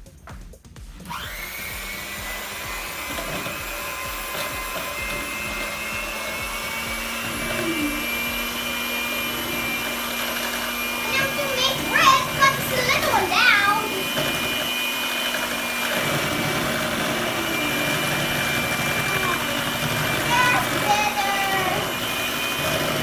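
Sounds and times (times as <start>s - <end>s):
electric hand mixer whining: 0.9s - 23.0s.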